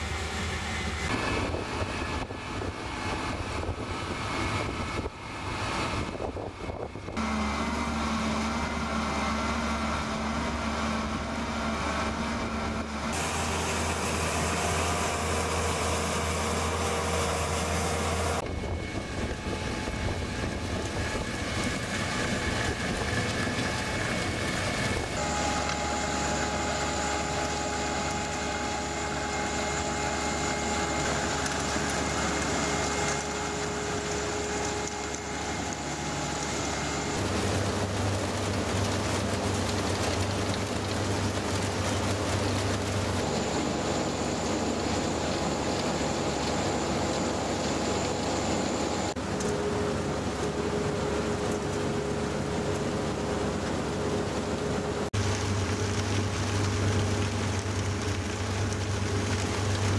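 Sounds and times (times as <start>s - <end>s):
harvesting machine drone: 0.0s - 59.9s.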